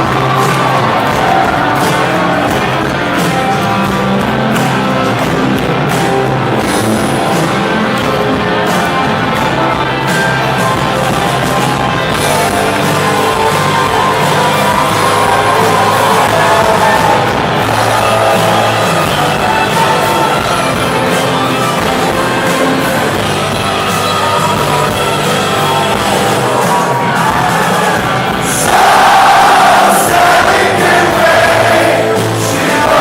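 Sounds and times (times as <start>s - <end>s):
crowd: 0.0s - 33.0s
drums: 0.0s - 33.0s
electric guitars: 0.0s - 33.0s.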